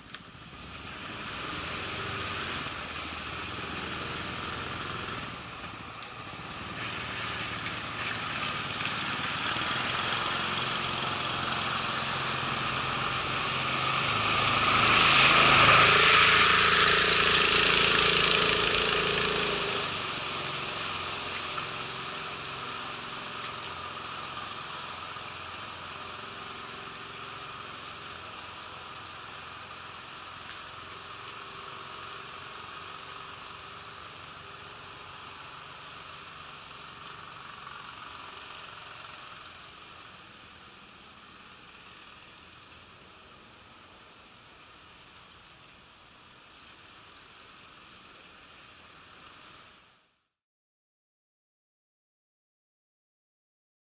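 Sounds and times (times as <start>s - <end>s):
small boat engine passing: 0.0s - 50.0s
water rushing hiss: 0.0s - 50.2s.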